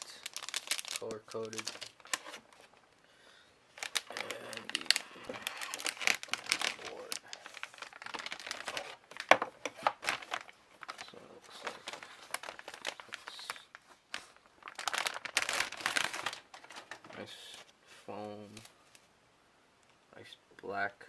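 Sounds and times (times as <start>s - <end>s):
packaging crinkling and rustling: 0.0s - 2.9s, 3.7s - 17.8s.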